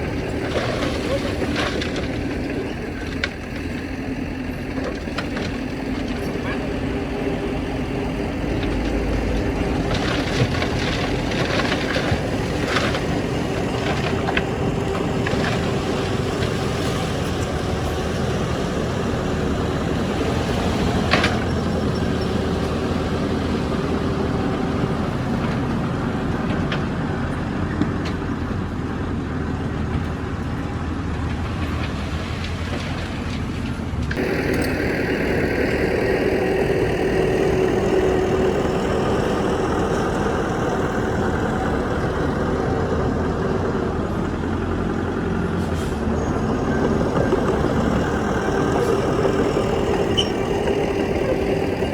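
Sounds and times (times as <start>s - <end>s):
diesel machinery running: 0.0s - 51.9s.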